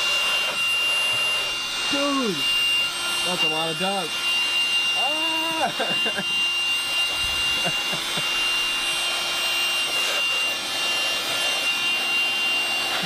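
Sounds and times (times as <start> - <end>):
air duster blowing air: 0.0 - 13.0
thin high whine: 0.0 - 13.0.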